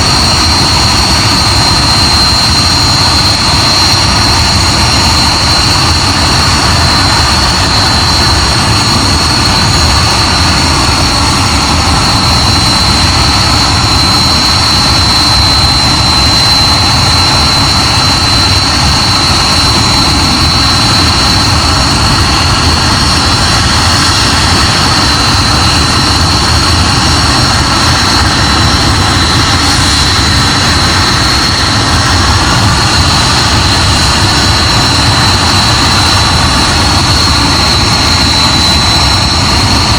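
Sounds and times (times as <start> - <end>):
high-pitched whine: 0.0 - 39.9
jet engine roar: 0.0 - 39.9.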